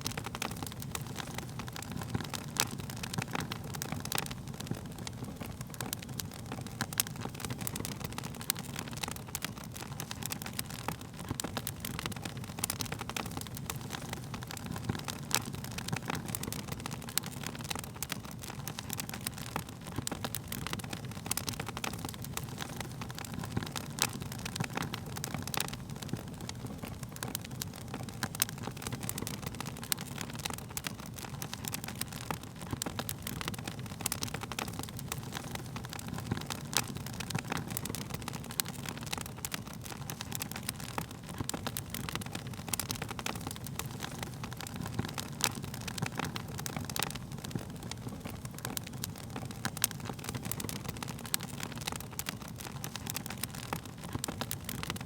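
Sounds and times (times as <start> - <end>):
burning wood crackling and popping: 0.0 - 55.0
wood fire burning: 0.0 - 55.0.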